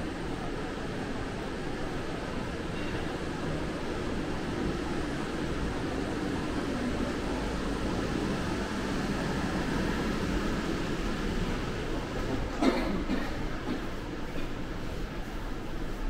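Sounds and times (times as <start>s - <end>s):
ventilation rumble and hiss: 0.0s - 16.0s.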